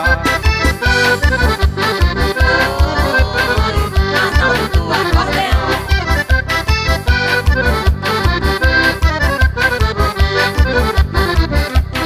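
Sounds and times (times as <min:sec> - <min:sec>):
accordion playing quick melody: 0:00.0 - 0:12.0.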